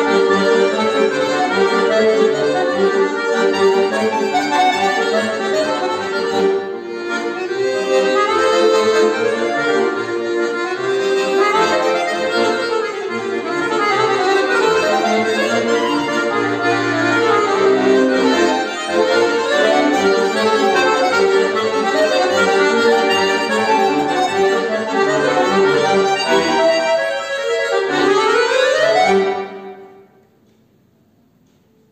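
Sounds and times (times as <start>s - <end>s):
button accordion playing: 0.0s - 30.2s.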